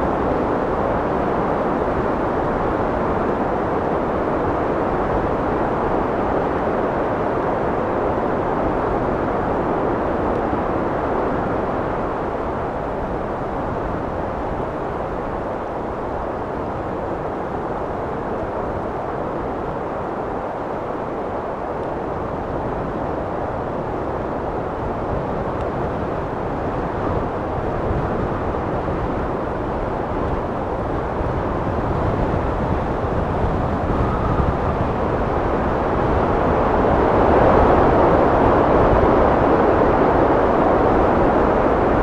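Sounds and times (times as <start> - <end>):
rushing wind roar: 0.0 - 42.0.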